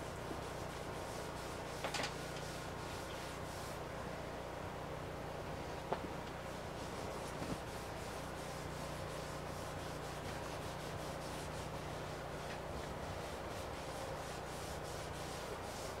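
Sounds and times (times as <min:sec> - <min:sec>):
cloth rag wiping wood: 0:00.0 - 0:03.8, 0:06.5 - 0:16.0
faint steady hum: 0:00.0 - 0:16.0.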